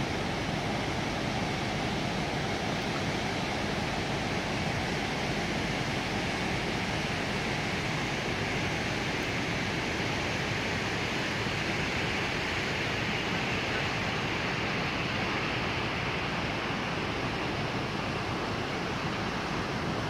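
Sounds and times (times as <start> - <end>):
fast river rushing: 0.0 - 20.0.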